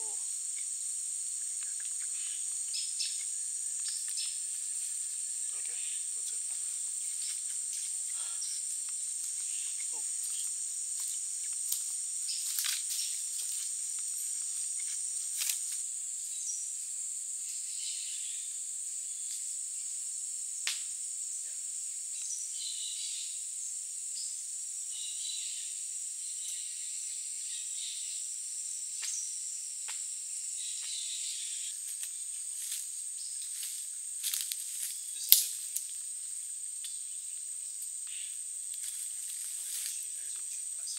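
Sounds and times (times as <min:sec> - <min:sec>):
high-pitched insect drone: 0:00.0 - 0:40.9
short insect chirps: 0:00.0 - 0:40.9.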